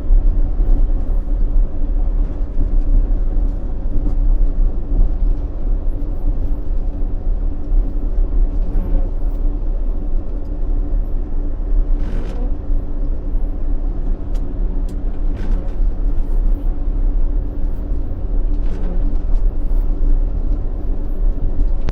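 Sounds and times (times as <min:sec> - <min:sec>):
diesel engine rumbling: 0:00.0 - 0:21.9.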